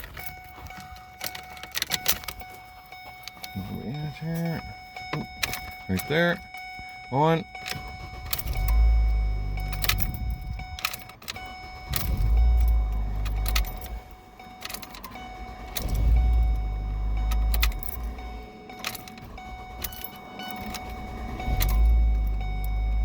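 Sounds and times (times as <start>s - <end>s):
car engine cranking: 0.0s - 23.0s
ignition key clicks: 0.0s - 23.0s.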